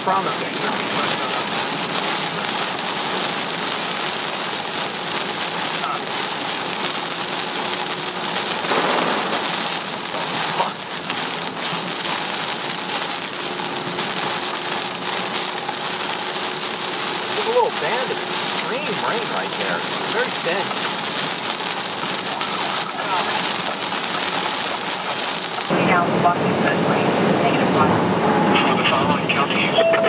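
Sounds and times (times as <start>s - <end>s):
heavy rain on car roof: 0.0s - 26.2s.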